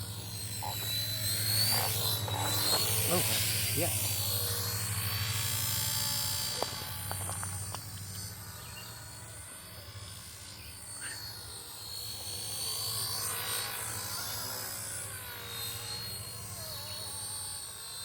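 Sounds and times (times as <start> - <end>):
low pulsing rotor hum: 0.0 - 18.0
model helicopter motor whine: 0.0 - 18.0.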